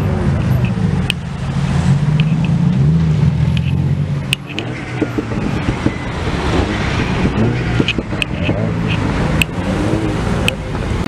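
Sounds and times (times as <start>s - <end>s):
cars driving slowly past: 0.0s - 11.0s
engine crackles: 0.0s - 11.0s.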